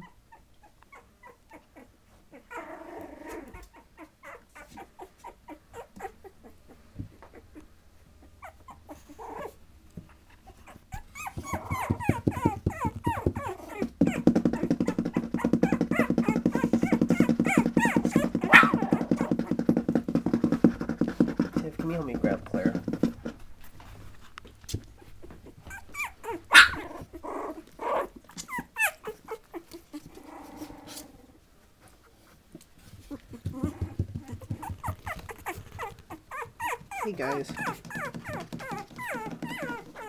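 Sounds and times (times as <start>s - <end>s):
puppy yelping: 0.0s - 9.6s, 10.2s - 19.7s, 25.0s - 31.2s, 33.1s - 40.0s
puppies whimpering and growling: 0.0s - 23.2s, 24.8s - 31.4s, 32.9s - 40.0s.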